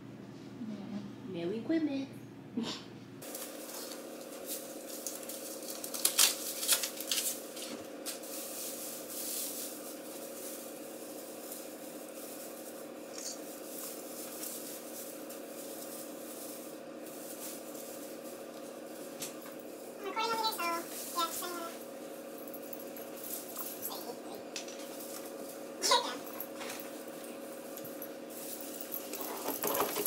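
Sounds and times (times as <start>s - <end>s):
steady hum: 0.0s - 30.0s
foil tinsel rustling and crinkling: 3.2s - 30.0s.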